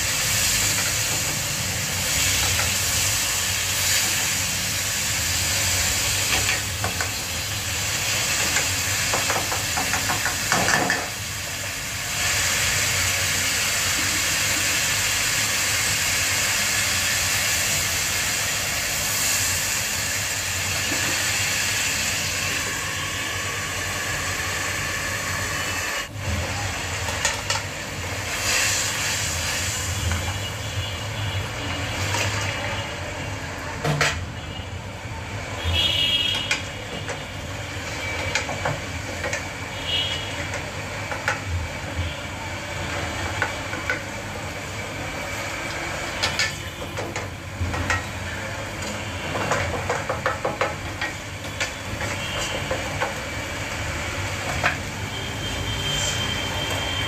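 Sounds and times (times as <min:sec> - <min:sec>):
food sizzling on stove: 0:00.0 - 0:57.0.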